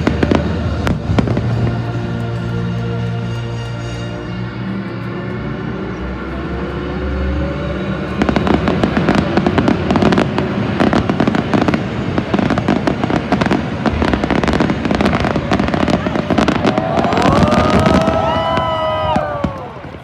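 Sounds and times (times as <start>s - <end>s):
fireworks crackling and banging: 0.0s - 5.2s, 7.6s - 20.0s
held musical chord: 0.0s - 16.6s.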